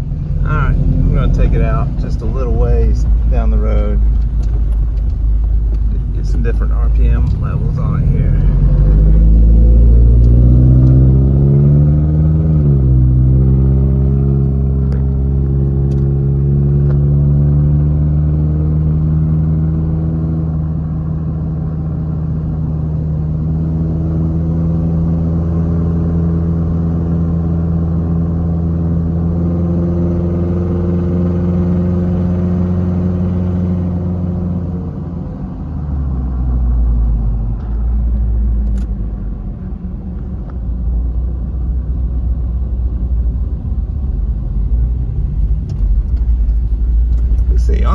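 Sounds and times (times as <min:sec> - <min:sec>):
pickup engine revving: 0:00.0 - 0:47.9.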